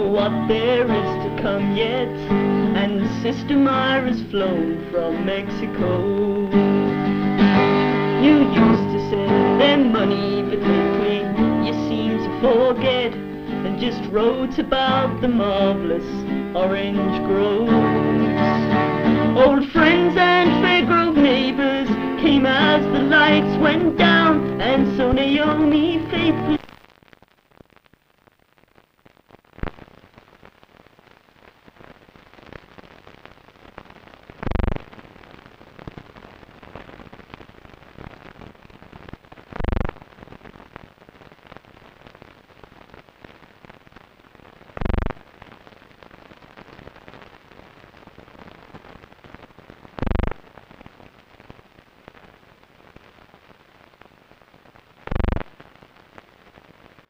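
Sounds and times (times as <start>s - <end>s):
crackling film soundtrack noise: 0.0s - 57.0s.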